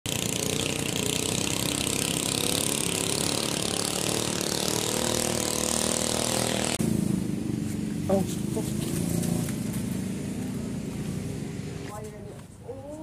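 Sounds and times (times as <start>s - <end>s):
motorboat engine running: 0.1s - 13.0s.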